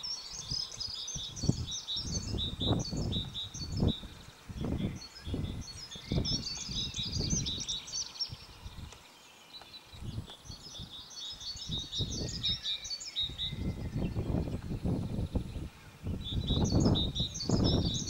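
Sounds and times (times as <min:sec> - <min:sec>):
songbirds chirping: 0:00.0 - 0:18.0
wind buffeting microphone: 0:00.2 - 0:09.1, 0:09.8 - 0:18.0.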